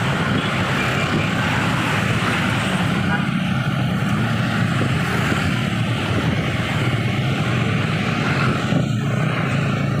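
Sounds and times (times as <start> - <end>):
bus engine and road noise: 0.0 - 10.0.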